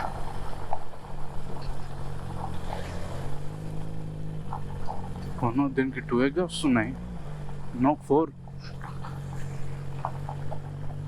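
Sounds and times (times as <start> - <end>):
motorcycle engine revving: 0.0 - 11.0
wind and road noise: 0.0 - 11.0.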